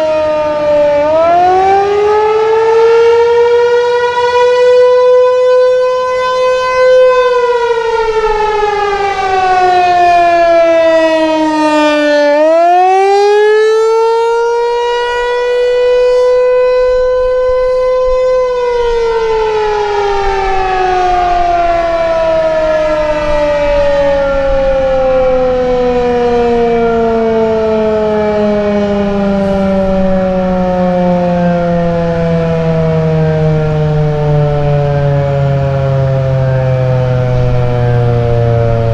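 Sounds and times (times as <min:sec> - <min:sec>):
warning siren wavering tone: 0:00.0 - 0:38.9.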